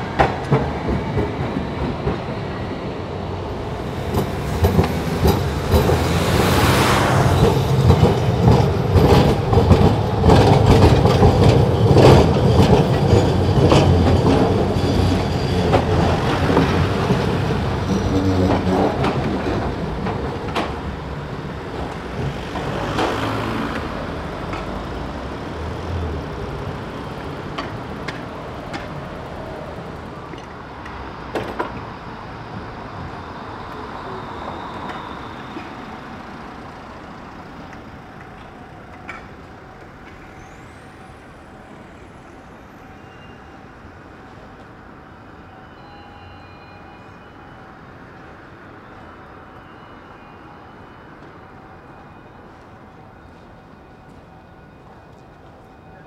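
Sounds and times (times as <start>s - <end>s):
tram wheels clattering over rails: 0.0s - 45.4s.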